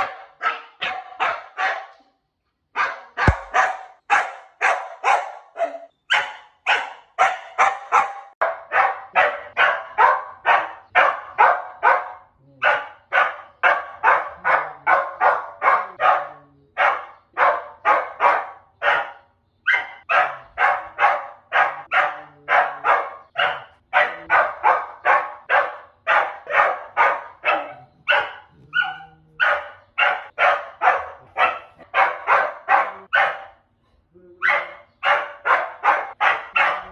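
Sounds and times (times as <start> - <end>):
dog barking: 0.0 - 2.1, 2.7 - 33.7, 34.4 - 36.9.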